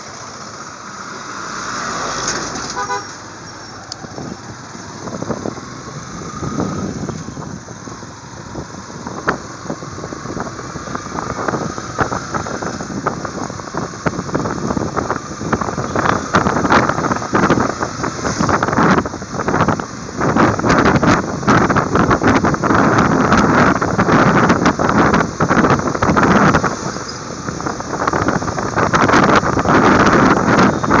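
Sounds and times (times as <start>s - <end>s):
road noise: 0.0s - 31.0s
wind buffeting microphone: 3.3s - 31.0s.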